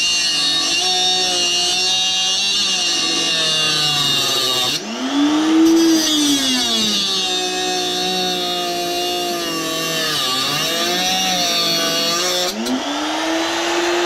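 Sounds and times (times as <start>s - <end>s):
power tool motor whining on metal: 0.0s - 14.0s.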